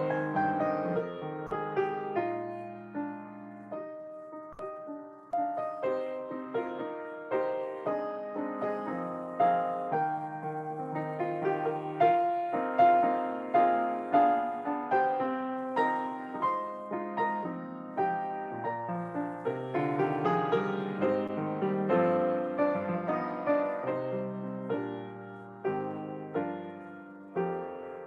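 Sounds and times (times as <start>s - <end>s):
slow gentle piano melody: 0.0s - 28.0s.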